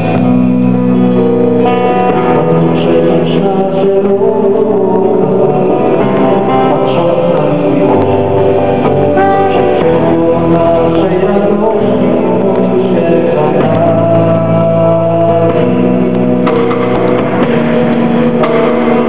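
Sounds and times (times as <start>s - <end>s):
acoustic guitar: 0.0s - 19.0s
bass: 0.0s - 19.0s
keyboard: 0.0s - 19.0s
man singing: 1.0s - 19.0s.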